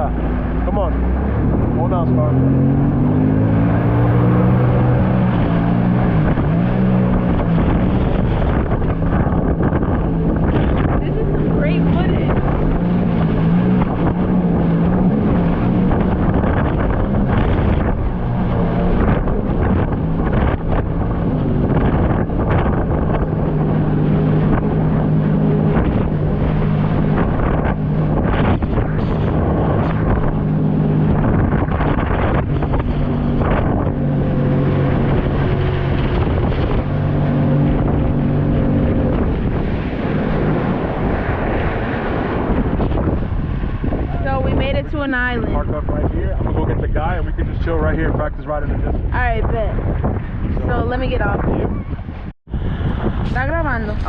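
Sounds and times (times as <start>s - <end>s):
jet ski engine running: 0.0s - 3.3s, 4.5s - 52.0s
wind buffeting microphone: 0.0s - 54.0s.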